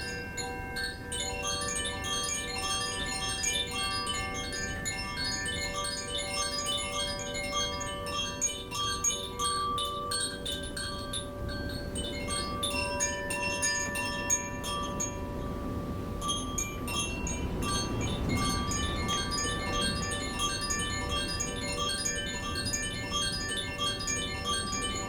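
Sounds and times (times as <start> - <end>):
metal chimes ringing: 0.0 - 25.0.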